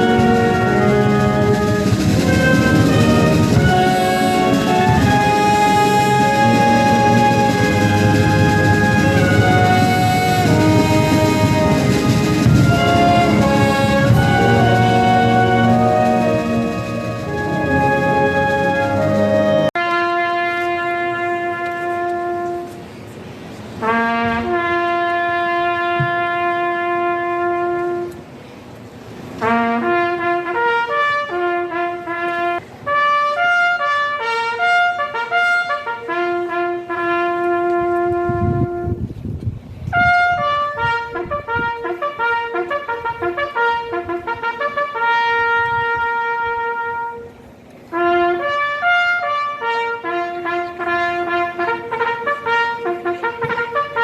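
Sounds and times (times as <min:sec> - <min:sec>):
trumpet-led brass music: 0:00.0 - 0:28.4, 0:29.4 - 0:39.2, 0:39.8 - 0:54.0.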